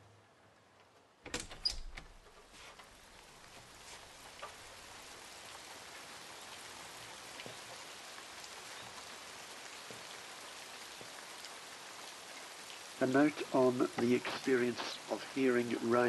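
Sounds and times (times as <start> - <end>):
steady rain falling: 0.0 - 16.0
raindrops tapping close by: 2.0 - 16.0.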